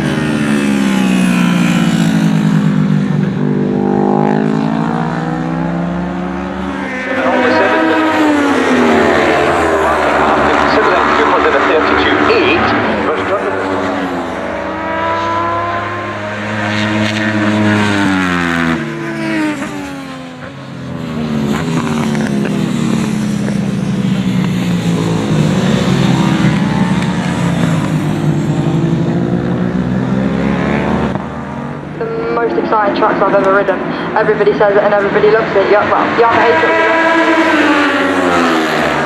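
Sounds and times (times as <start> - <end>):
racing motorcycles passing: 0.0 - 39.0.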